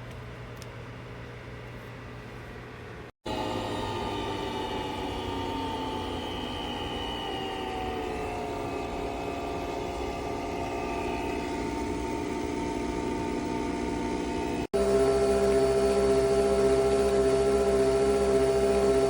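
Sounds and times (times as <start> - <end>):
coffee machine motor hum and whine: 0.0 - 19.0.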